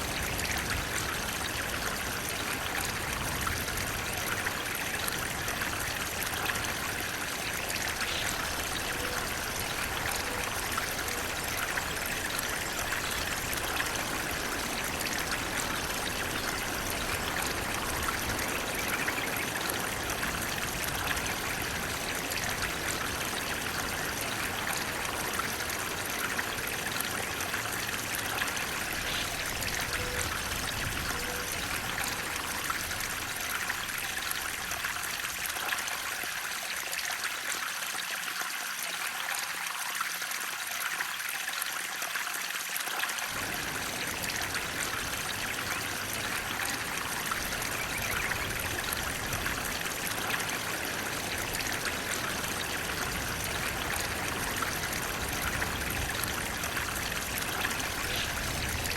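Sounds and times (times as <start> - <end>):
water flowing: 0.0 - 58.9.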